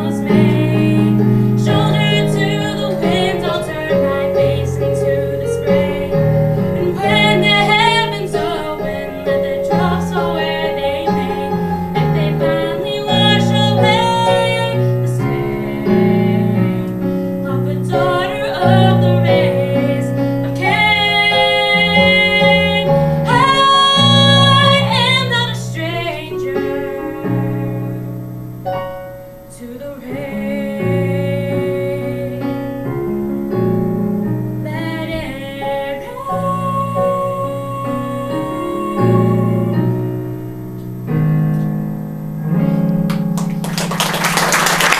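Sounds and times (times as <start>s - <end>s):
woman singing a ballad: 0.0s - 28.1s, 29.5s - 40.4s
electric keyboard piano chords: 0.0s - 44.9s.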